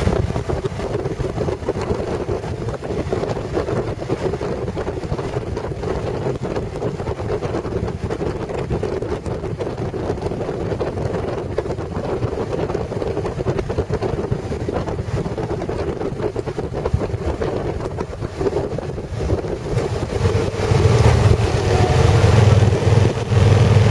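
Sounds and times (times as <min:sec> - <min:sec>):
motorcycle engine drone: 0:00.0 - 0:23.9
wind rushing over microphone: 0:00.0 - 0:23.9.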